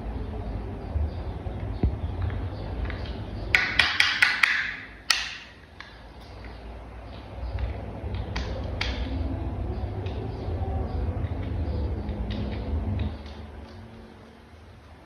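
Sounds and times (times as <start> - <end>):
steady low hum: 0.0 - 4.0, 4.7 - 15.0.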